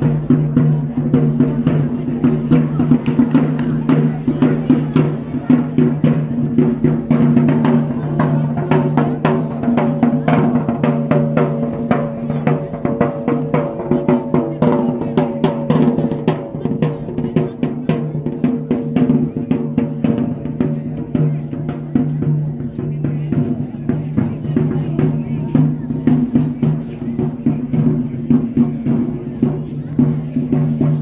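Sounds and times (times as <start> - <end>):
snare and bass drum beating: 0.0 - 31.0.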